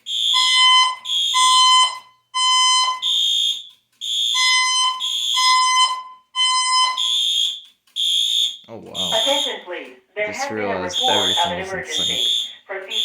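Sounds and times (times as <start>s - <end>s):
fire alarm blasts: 0.0s - 13.0s.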